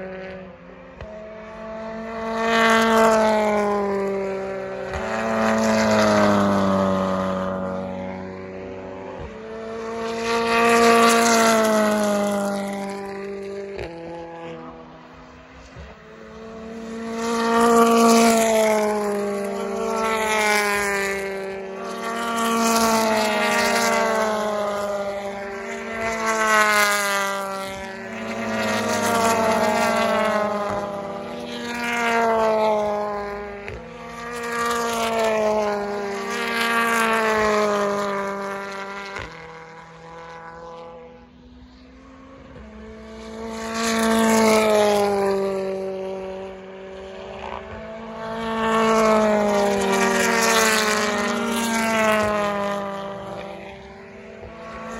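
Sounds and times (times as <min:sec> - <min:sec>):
racing cars passing by: 0:00.0 - 0:54.9.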